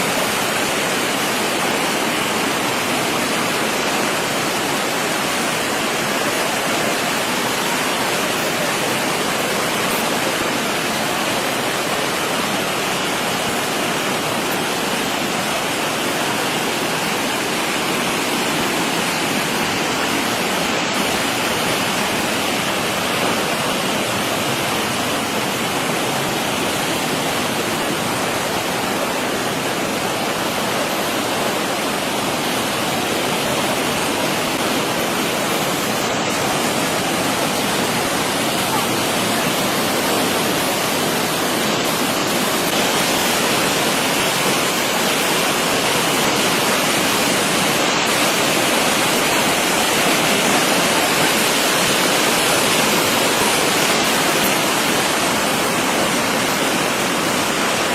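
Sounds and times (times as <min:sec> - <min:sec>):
rushing floodwater: 0:00.0 - 0:57.9.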